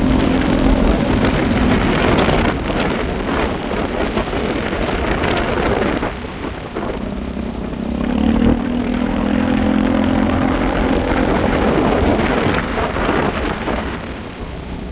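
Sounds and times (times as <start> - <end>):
motorcycle engine drone: 0.0 - 14.9
rushing noise: 0.0 - 14.9.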